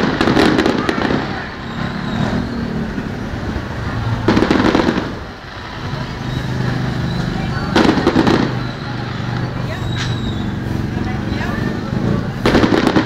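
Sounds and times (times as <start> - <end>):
fireworks crackling bangs: 0.0 - 13.0.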